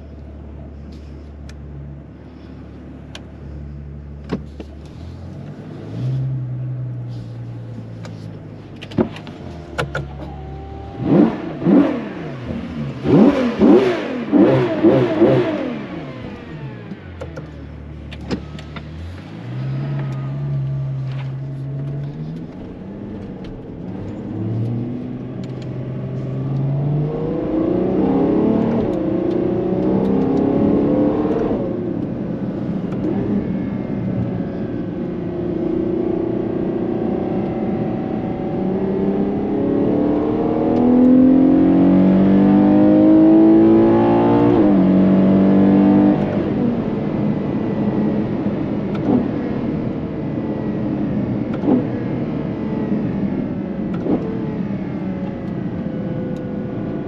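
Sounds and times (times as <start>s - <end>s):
car engine accelerating hard: 2.2s - 57.0s.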